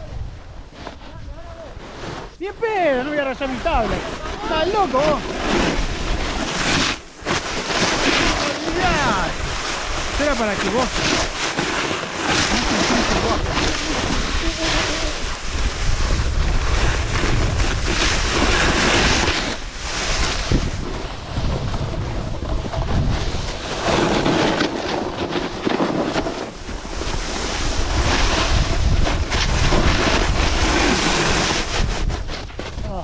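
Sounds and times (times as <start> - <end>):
wind buffeting microphone: 0.0 - 11.6, 12.2 - 33.0
snowboard scraping across snow: 0.0 - 33.0.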